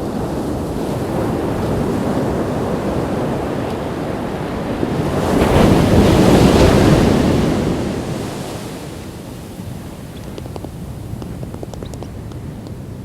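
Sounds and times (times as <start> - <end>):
ocean waves breaking: 0.0 - 13.0
wind on microphone: 0.0 - 13.0.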